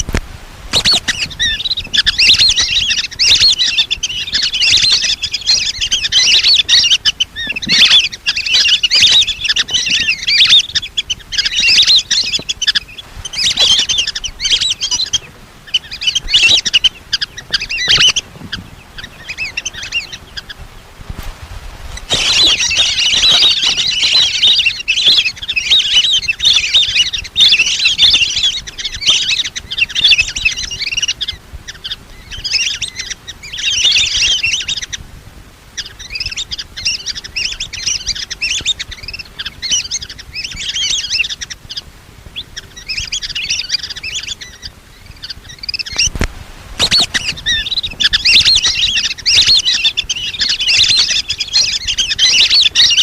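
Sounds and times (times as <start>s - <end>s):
ducks whistling calls: 0.0s - 35.0s, 35.6s - 53.0s.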